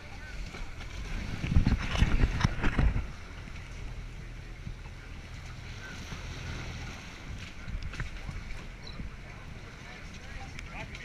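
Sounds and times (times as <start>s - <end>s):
boat engine humming: 0.0s - 11.0s
choppy sea wash: 0.0s - 11.0s
wind: 0.0s - 11.0s.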